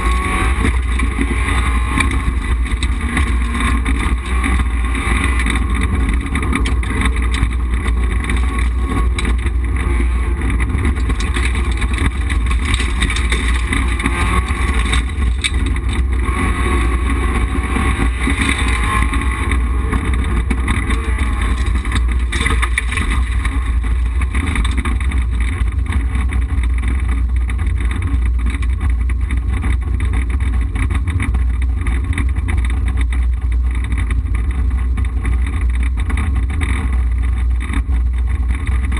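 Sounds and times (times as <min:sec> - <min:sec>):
rally car engine revving: 0:00.0 - 0:38.9
road and tyre rumble: 0:00.0 - 0:38.9.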